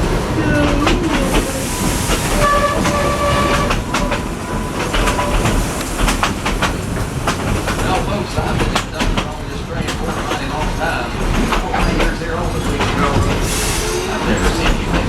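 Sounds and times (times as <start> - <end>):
steam train rumbling on rails: 0.0 - 15.0
wheels clacking over rail joints: 0.0 - 15.0.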